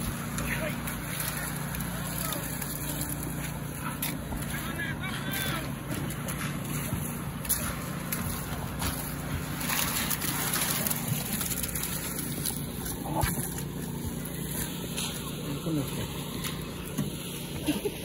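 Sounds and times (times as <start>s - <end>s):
trowels scraping concrete: 0.0s - 17.4s
low engine hum: 0.0s - 18.0s
wet concrete sloshing: 0.0s - 18.0s.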